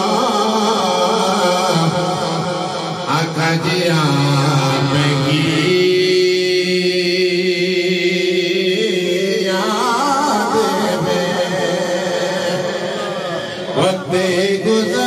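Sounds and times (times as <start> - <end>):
man chanting over microphone: 0.0 - 15.0.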